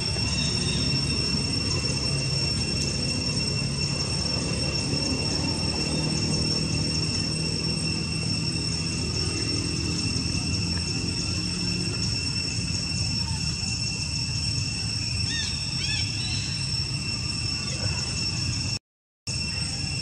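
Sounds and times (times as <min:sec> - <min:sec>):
high-pitched insect drone: 0:00.0 - 0:20.0
rising-and-falling chirps: 0:00.0 - 0:20.0.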